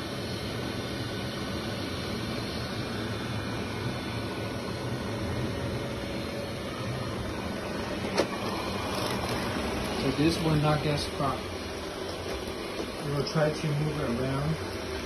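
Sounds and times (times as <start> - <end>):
robot vacuum running: 1.6 - 15.0.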